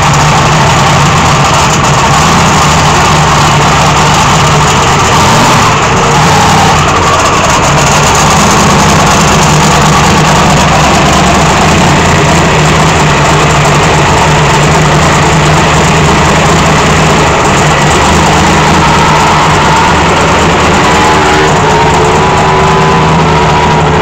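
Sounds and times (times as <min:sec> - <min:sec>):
snowmobile engine idling loudly: 0:00.0 - 0:24.0.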